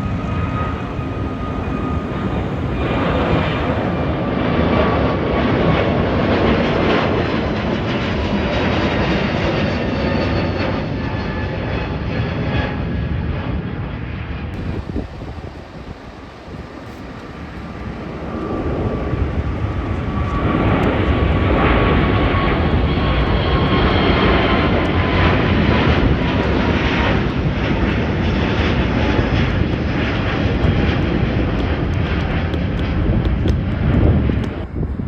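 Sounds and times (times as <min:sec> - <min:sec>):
jet airliner taking off: 0:00.0 - 0:35.0.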